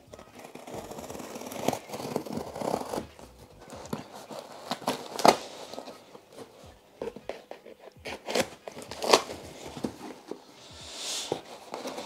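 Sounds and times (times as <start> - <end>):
packing tape crackle: 0.0 - 10.2, 11.3 - 12.0
scissors scraping cardboard: 0.0 - 10.2, 11.2 - 12.0.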